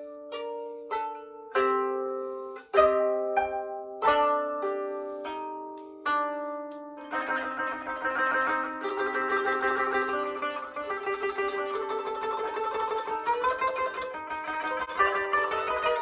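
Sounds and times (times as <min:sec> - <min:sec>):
koto plucked notes: 0:00.0 - 0:16.0.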